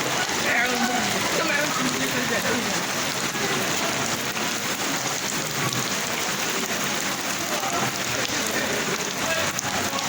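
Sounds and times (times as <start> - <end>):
heavy rain on hard surfaces: 0.0 - 10.0.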